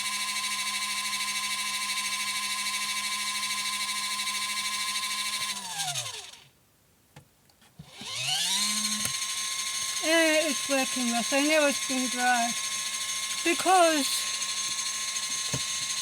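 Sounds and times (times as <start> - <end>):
spin dryer motor whining: 0.2 - 6.4, 7.9 - 16.0.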